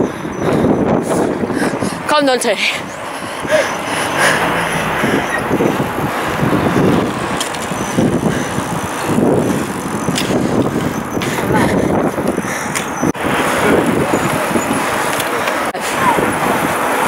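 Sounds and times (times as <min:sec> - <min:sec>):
wind and road noise: 0:00.0 - 0:17.0
wind gusts buffeting microphone: 0:00.0 - 0:17.0.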